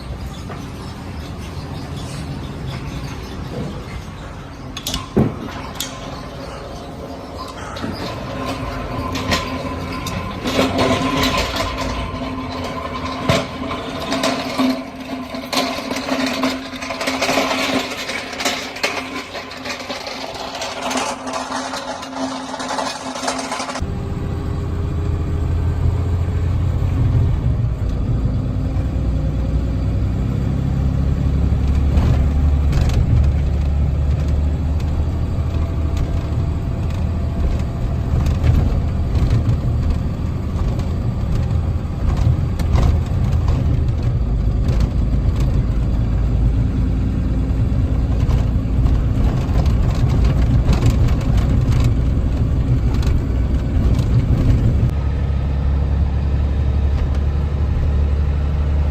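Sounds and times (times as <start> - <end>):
road noise: 0.0 - 58.9
truck engine running: 0.0 - 58.9.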